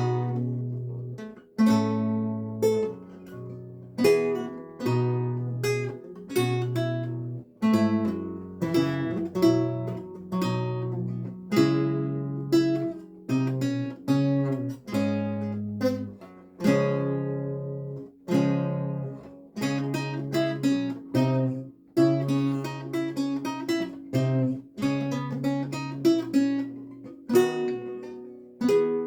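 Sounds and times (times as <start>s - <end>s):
solo lute playing: 0.0s - 29.0s.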